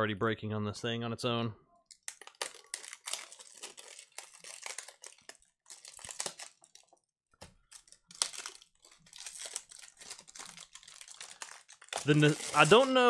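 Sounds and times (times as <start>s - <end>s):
plastic wrap crinkling and tearing: 1.9s - 13.0s.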